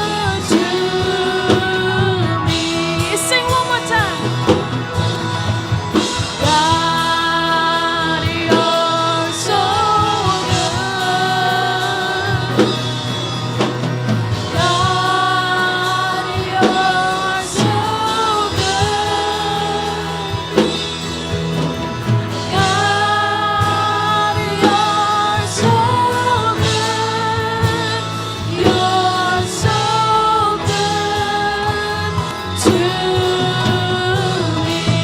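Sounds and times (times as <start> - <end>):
band playing: 0.0 - 35.0.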